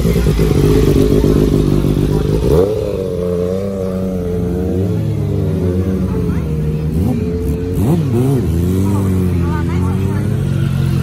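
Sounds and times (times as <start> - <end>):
motorcycle engine revving: 0.0 - 11.0
motorcycle engines at low revs: 0.0 - 11.0.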